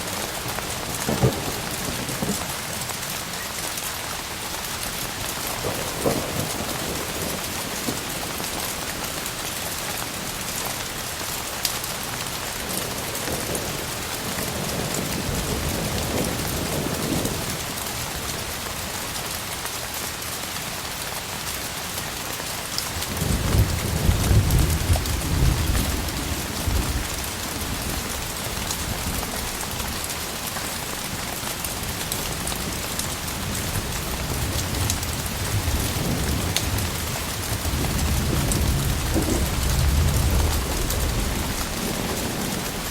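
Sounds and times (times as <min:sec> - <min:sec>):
rolling thunder: 0:00.0 - 0:03.4, 0:04.9 - 0:10.8, 0:12.5 - 0:18.4, 0:23.0 - 0:42.9
rain hissing and pattering: 0:00.0 - 0:42.9.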